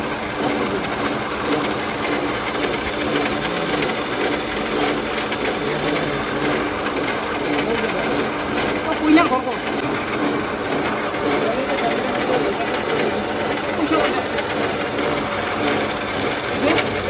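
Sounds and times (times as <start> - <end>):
metalworking machine whirring: 0.0 - 17.0.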